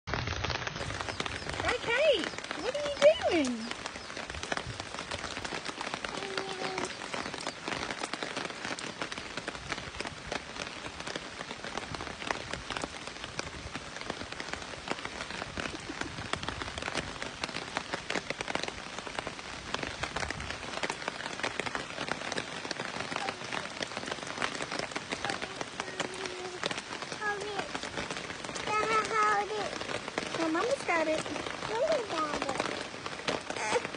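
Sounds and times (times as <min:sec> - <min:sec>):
rain on pavement and puddles: 0:00.0 - 0:33.9.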